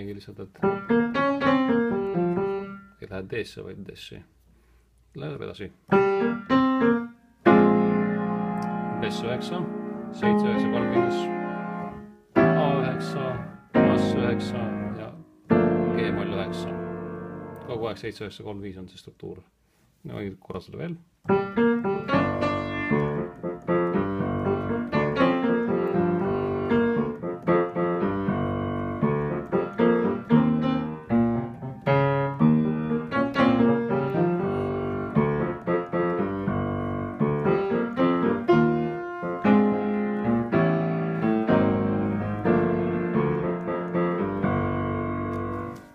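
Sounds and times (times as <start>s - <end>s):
piano chords ringing: 0.6s - 3.2s, 5.9s - 18.0s, 21.2s - 45.9s.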